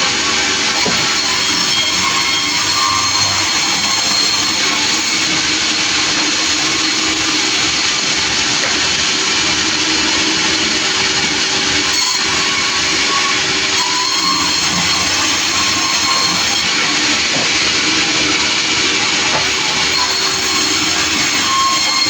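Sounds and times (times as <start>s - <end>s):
sawmill saw running: 0.0s - 22.0s.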